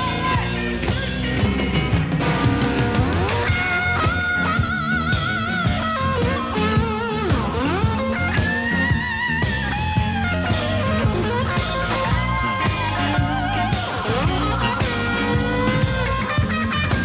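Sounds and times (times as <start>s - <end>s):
blues-rock band playing: 0.0s - 17.0s
electric guitar solo: 0.0s - 17.0s.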